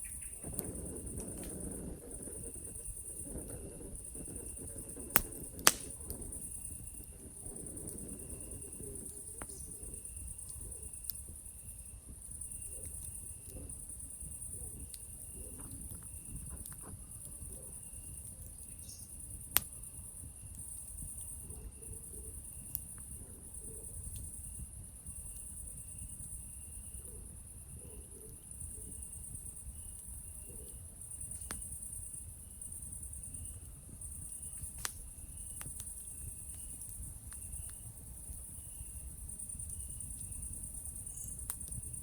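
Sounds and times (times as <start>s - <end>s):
campfire crackling and popping: 0.0s - 21.5s, 22.3s - 27.0s, 28.3s - 42.0s
night insects trilling: 0.0s - 42.0s.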